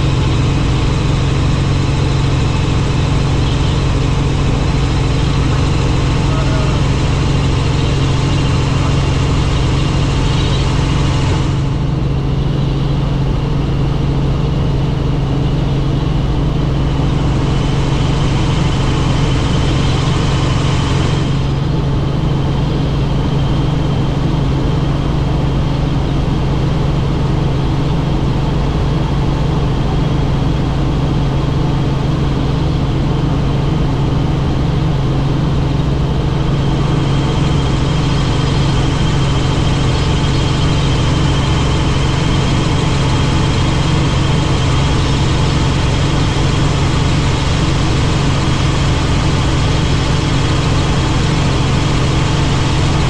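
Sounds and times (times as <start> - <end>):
helicopter rotor and engine drone: 0.0 - 53.0
high whine: 0.0 - 53.0.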